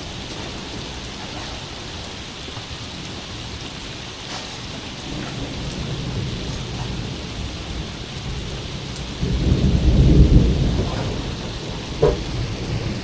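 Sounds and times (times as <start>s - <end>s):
heavy rain falling: 0.0s - 13.0s
thunder rumbling: 0.0s - 13.0s.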